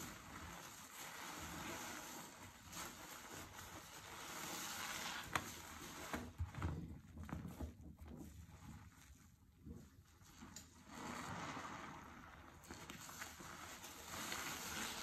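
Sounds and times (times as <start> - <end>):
sponge squelching: 0.0 - 15.0.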